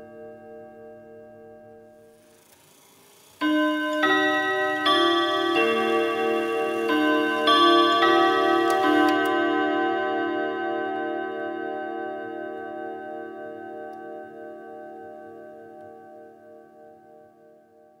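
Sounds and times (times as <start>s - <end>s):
clock chiming: 0.0s - 16.4s.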